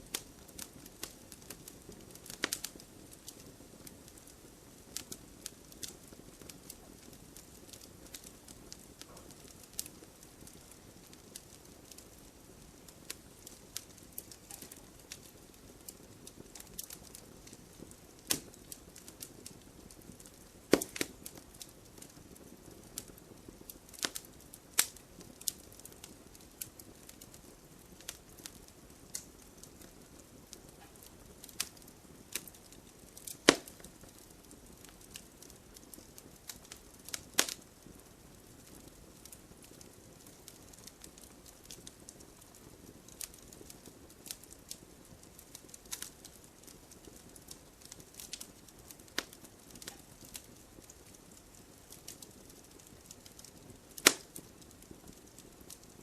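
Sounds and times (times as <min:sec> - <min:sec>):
firewood crackling and popping: 0:00.0 - 0:56.0
soft rustle of fire: 0:00.0 - 0:56.0.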